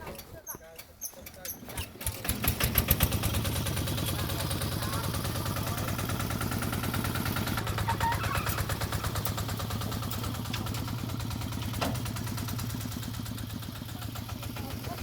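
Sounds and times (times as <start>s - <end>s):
engine running steadily: 1.8s - 15.0s.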